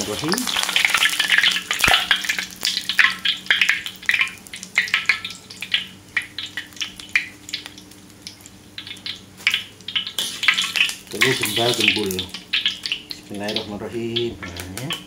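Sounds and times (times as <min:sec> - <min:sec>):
batter frying in hot oil: 0:00.0 - 0:15.0.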